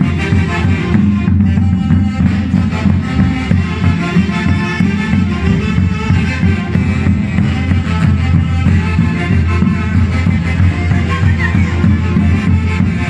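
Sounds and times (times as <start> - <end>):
latin band music with steady beat: 0.0 - 13.0.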